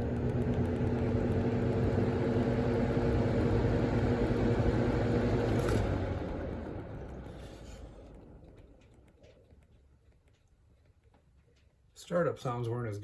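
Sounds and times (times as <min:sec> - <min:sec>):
box fan running: 0:00.0 - 0:10.4.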